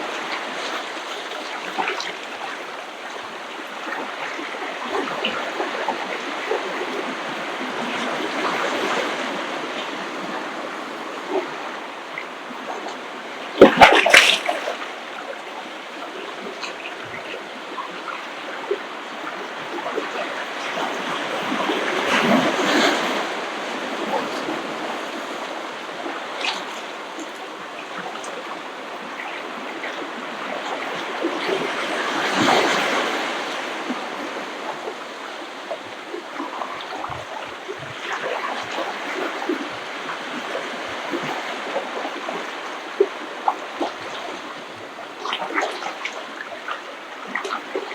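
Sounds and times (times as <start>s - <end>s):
ocean waves washing onto beach: 0.0s - 47.9s.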